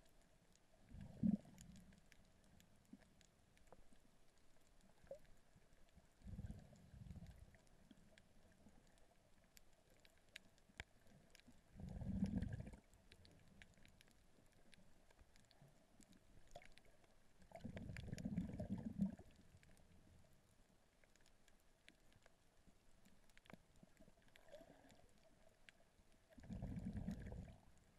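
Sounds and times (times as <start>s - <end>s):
faint underwater clicks: 0.0s - 27.9s
underwater water surges: 0.8s - 3.0s, 3.6s - 10.4s, 11.0s - 20.4s, 23.4s - 27.9s.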